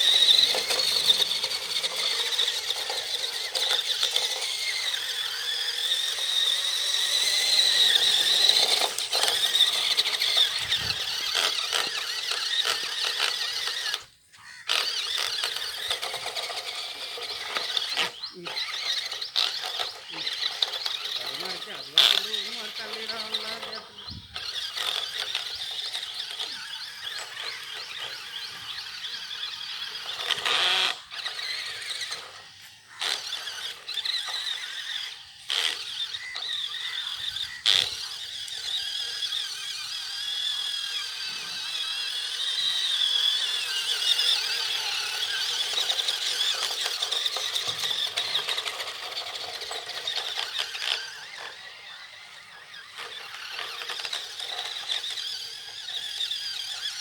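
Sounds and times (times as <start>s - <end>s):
toy car clattering over stones: 0.0s - 57.0s
toy car electric motor whining: 0.0s - 57.0s.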